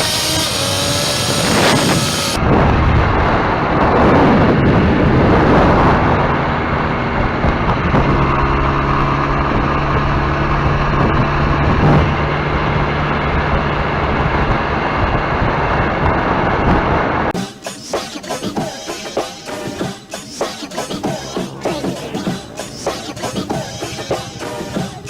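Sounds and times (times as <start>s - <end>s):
even engine hum: 0.0s - 17.4s, 18.0s - 25.0s
motorcycle engine and road noise: 0.0s - 17.4s, 18.7s - 25.0s.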